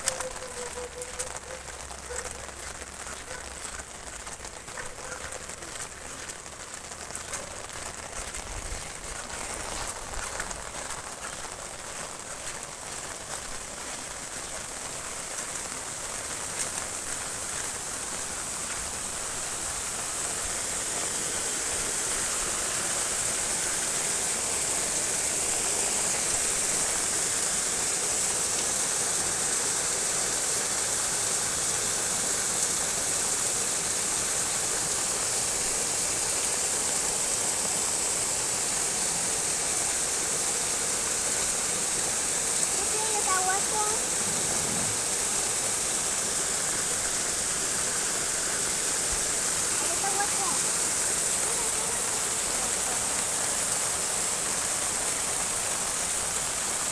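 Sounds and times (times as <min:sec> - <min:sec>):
canal water rushing: 0:00.0 - 0:56.9.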